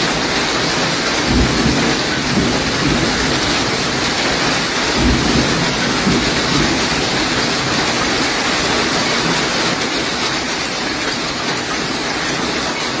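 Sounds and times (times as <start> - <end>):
hail falling: 0.0 - 13.0.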